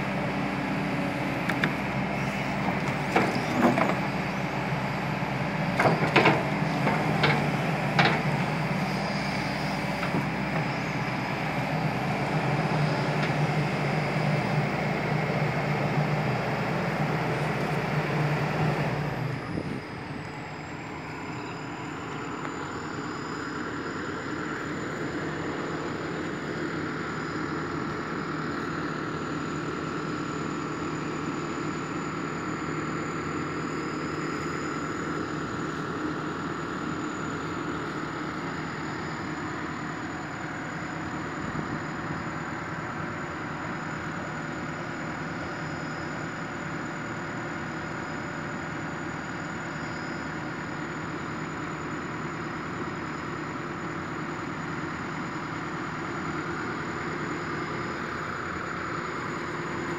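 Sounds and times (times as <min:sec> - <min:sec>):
diesel engine idling: 0:00.0 - 0:59.9
high-pitched whine: 0:08.0 - 0:59.9.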